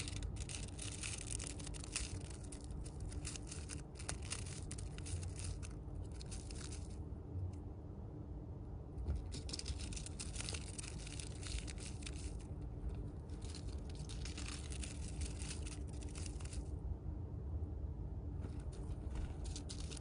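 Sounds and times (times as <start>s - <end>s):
chipmunk chewing tissue paper: 0.0s - 7.0s, 9.0s - 16.7s, 18.5s - 20.0s.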